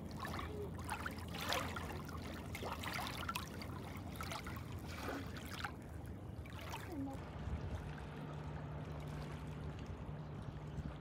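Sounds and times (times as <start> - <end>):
small splashes and trickles: 0.0 - 11.0
water lapping over rocks: 0.0 - 11.0.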